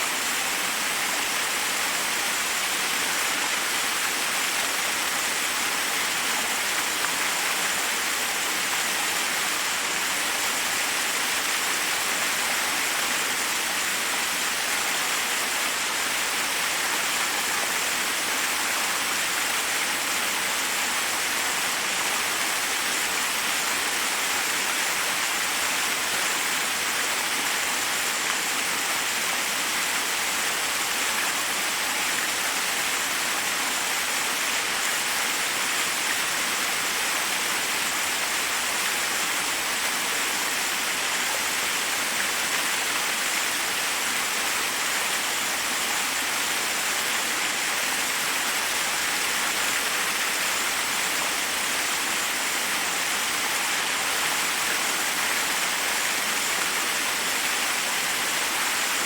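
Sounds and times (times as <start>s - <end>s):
water cascading over rocks: 0.0s - 59.0s.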